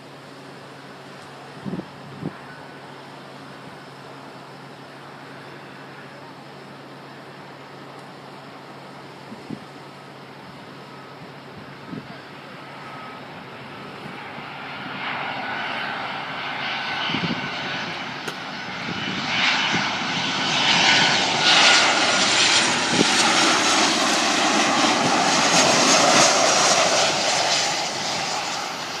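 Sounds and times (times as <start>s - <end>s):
jet engines roaring overhead: 0.0s - 29.0s.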